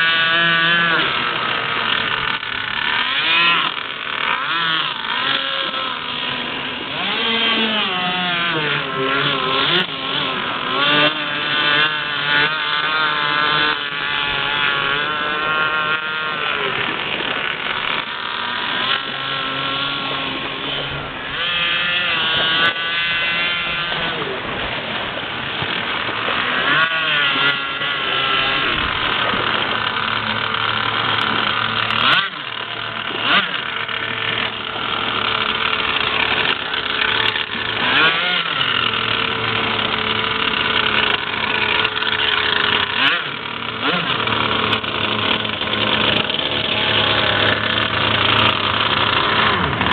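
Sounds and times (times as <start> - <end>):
model boat engine revving: 0.0 - 49.9.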